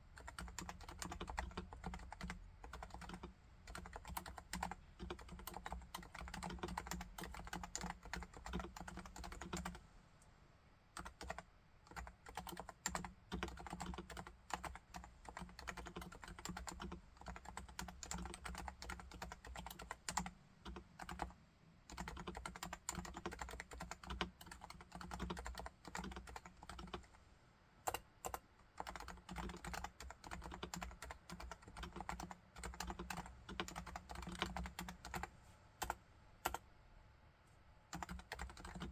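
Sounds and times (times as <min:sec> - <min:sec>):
keyboard typing: 0:00.2 - 0:09.8, 0:11.0 - 0:21.3, 0:21.9 - 0:27.2, 0:27.9 - 0:36.6, 0:37.9 - 0:38.9.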